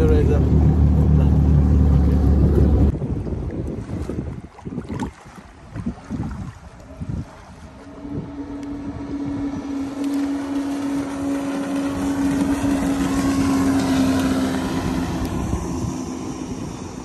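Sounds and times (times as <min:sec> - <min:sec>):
jet ski engine passing: 0:00.0 - 0:03.0, 0:06.0 - 0:17.0.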